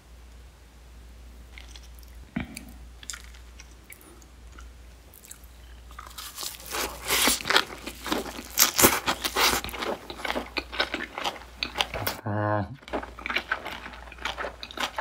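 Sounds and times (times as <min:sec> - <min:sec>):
lettuce crunching while chewing: 0:01.5 - 0:12.2, 0:12.8 - 0:15.0.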